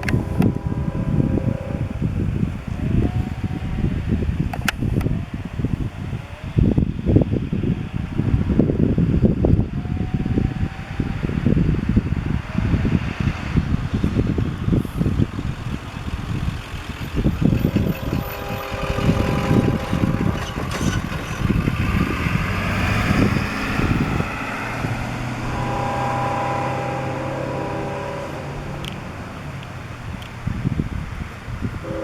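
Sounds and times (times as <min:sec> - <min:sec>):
diesel locomotive engines: 0:00.0 - 0:32.0
wind on microphone: 0:00.0 - 0:32.0.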